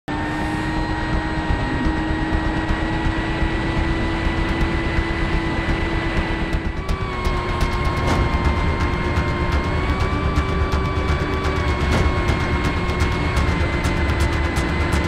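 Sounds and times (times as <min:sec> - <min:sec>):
electric motor whining: 0:00.1 - 0:15.0.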